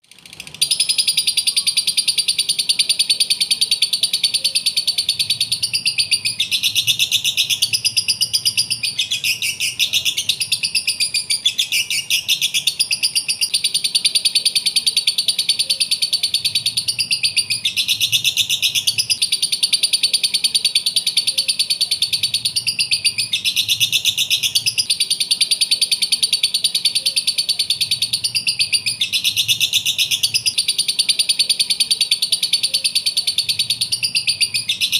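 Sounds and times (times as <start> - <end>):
lovebird chirping: 0.4 - 34.9.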